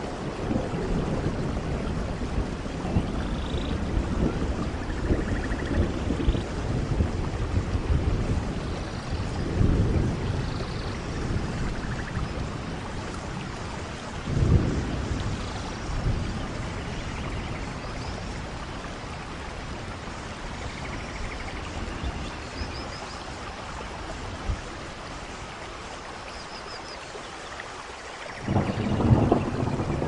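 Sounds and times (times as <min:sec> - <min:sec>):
steady rushing water: 0:00.0 - 0:30.0.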